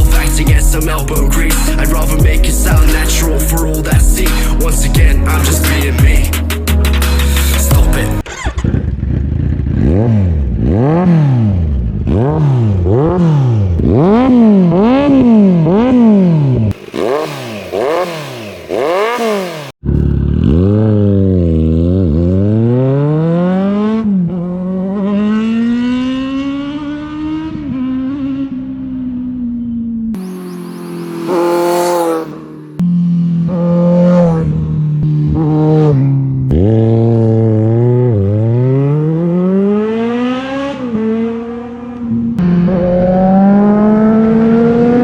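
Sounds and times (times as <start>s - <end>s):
motorcycle engine revving: 0.0s - 29.5s, 30.2s - 45.0s
motorcycle accelerating: 0.0s - 45.0s.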